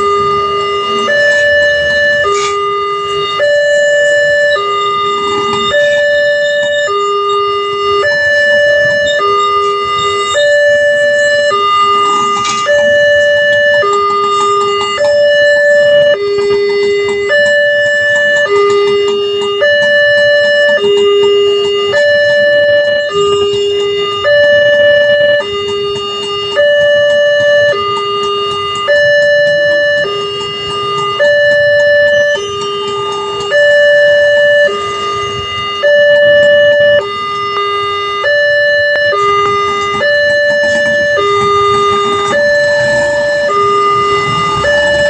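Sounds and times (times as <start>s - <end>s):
two-tone electronic warning siren: 0.0s - 45.0s.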